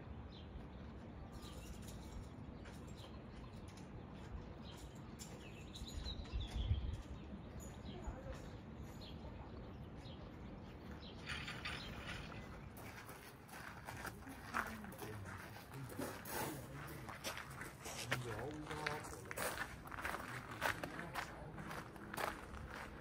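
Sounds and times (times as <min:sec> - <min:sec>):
outdoor background noise: 0:00.0 - 0:23.0
small birds chirping: 0:00.0 - 0:23.0.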